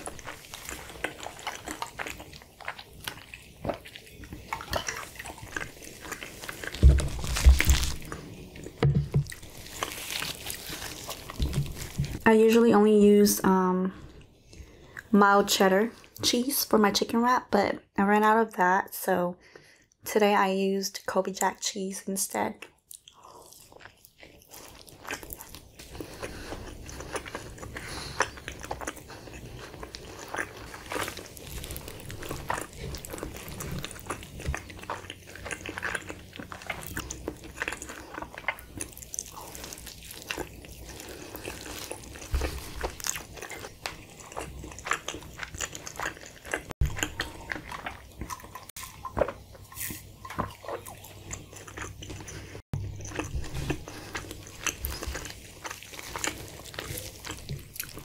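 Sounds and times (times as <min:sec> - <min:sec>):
wet chewing mouth sounds: 0:00.0 - 0:12.3, 0:22.6 - 0:58.0.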